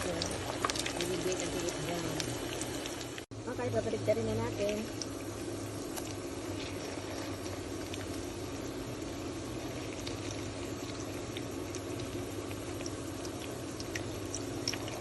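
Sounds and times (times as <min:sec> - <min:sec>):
small pops and spatters: 0:00.0 - 0:03.3, 0:05.8 - 0:15.0
patties sizzling in a pan: 0:00.0 - 0:15.0.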